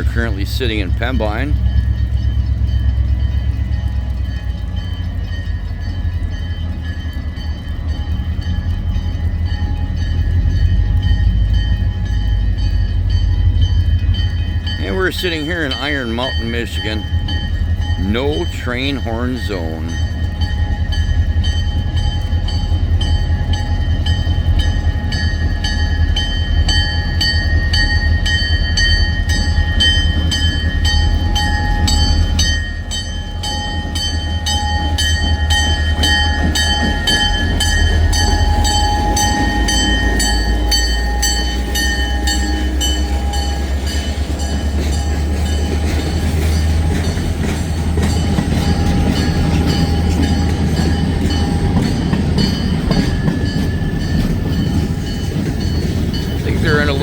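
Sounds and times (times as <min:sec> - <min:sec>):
crossing signal bell ringing: 0:00.0 - 0:57.0
freight train drone: 0:00.0 - 0:57.0.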